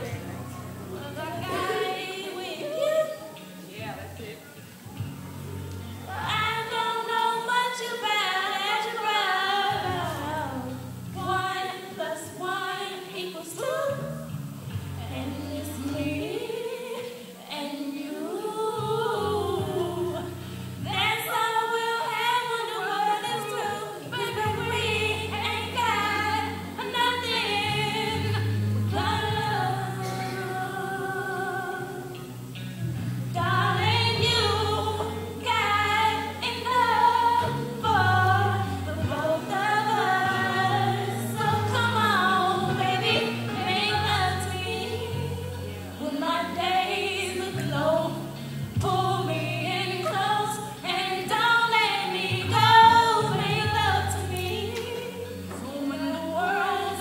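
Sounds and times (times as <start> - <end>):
girl singing into a microphone: 1.0 - 3.4, 6.1 - 32.3, 33.4 - 57.0.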